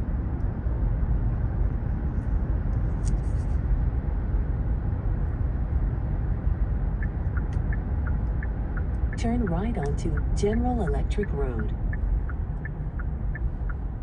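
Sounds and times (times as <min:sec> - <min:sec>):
road and tyre noise in car: 0:00.0 - 0:14.0.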